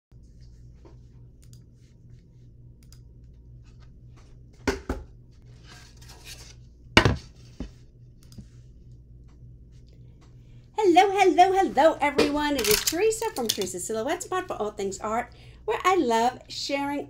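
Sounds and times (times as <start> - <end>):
faint low hum: 0.1 - 17.0.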